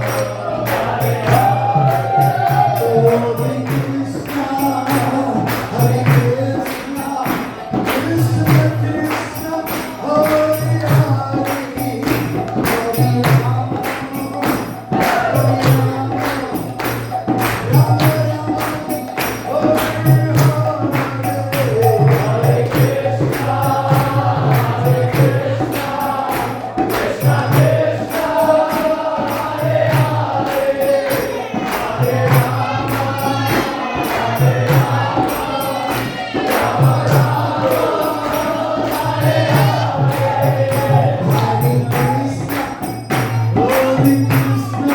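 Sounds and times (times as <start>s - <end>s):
group singing a chant: 0.0s - 44.9s
jingling hand percussion: 0.0s - 44.9s.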